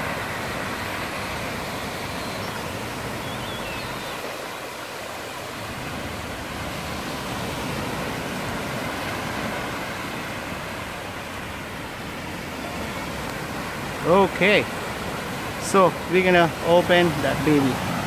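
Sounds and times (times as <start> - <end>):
small waves breaking on sand: 0.0 - 18.0.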